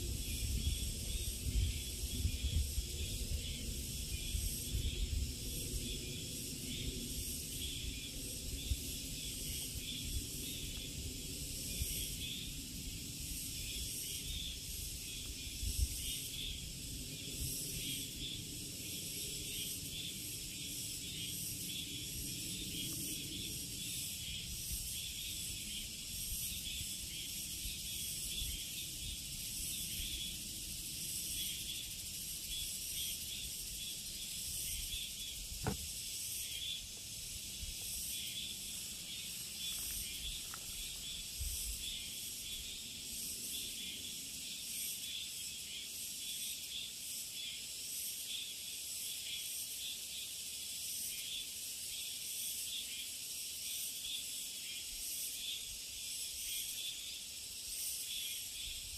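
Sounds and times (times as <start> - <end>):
insects buzzing: 0.0 - 58.9.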